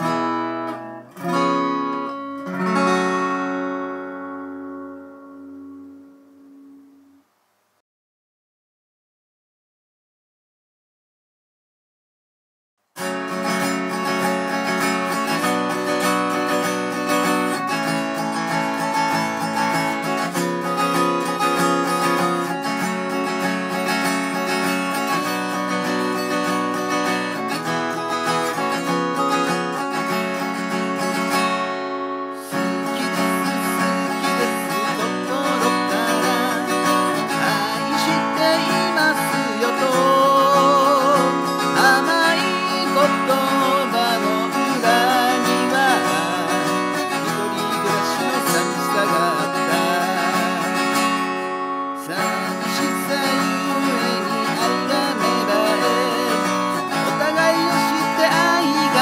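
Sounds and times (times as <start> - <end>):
acoustic guitar strumming: 0.0 - 7.3, 13.0 - 59.0.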